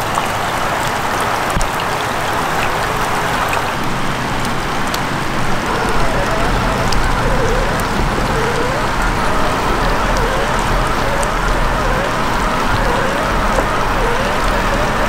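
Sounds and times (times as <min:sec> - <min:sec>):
rain: 0:00.0 - 0:15.0
stream water running: 0:00.0 - 0:15.0.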